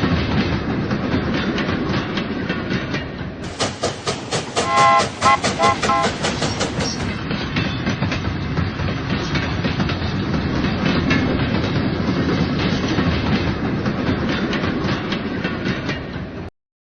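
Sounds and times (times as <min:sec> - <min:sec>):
model train rumbling: 0:00.0 - 0:16.5
wheels clicking over rails: 0:00.0 - 0:16.5.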